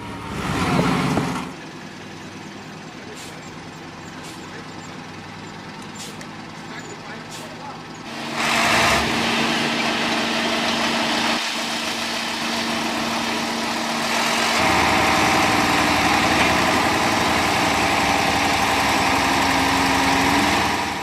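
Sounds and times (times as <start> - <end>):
heavy truck engine running: 0.0 - 21.0.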